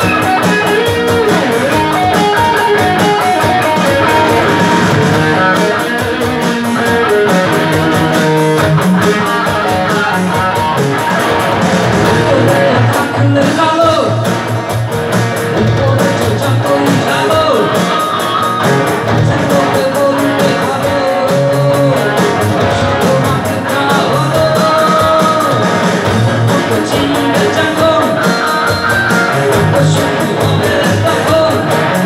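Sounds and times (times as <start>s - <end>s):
electric lead guitar: 0.0s - 32.0s
keyboard: 0.0s - 32.0s.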